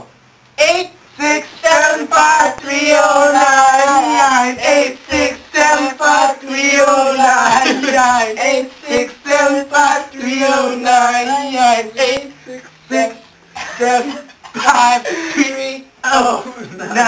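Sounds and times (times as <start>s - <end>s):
young men singing together: 1.2s - 17.0s.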